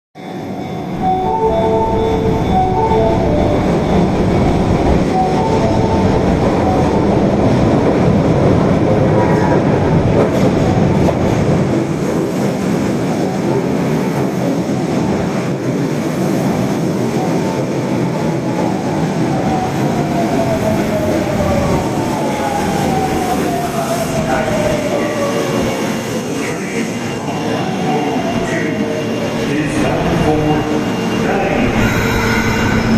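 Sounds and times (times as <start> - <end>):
subway wheels rumbling on rails: 0.2 - 32.9.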